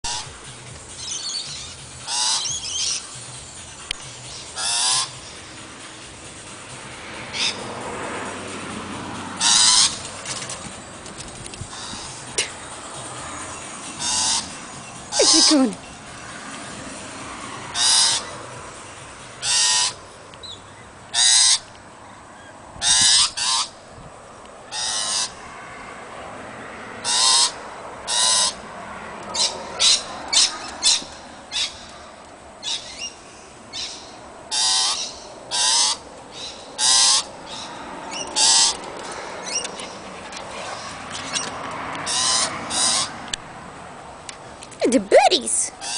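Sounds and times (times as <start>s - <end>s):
birds giving harsh screechy calls: 0.0s - 5.8s, 7.0s - 8.2s, 9.2s - 10.7s, 11.7s - 23.9s, 24.6s - 25.4s, 26.9s - 28.6s, 29.3s - 43.3s, 44.9s - 45.9s.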